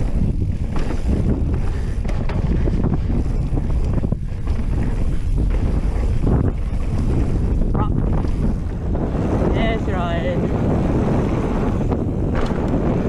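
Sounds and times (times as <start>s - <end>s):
bike rattling and knocking: 0.0s - 13.0s
tyres rolling over dirt: 0.0s - 13.0s
wind rushing over microphone: 0.0s - 13.0s.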